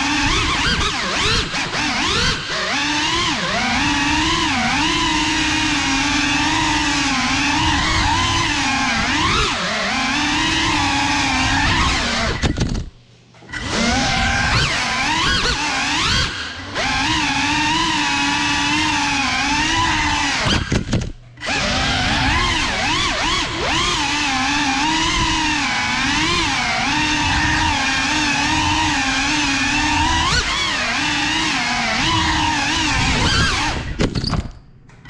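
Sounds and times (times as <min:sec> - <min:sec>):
drone motors whining: 0:00.0 - 0:34.4.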